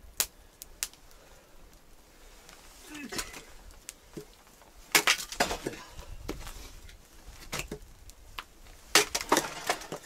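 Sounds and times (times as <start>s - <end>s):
campfire cracking: 0.0s - 10.0s.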